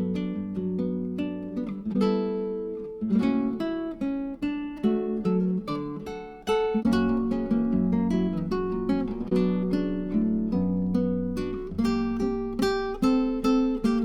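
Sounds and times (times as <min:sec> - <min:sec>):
acoustic guitar picking: 0:00.0 - 0:14.0.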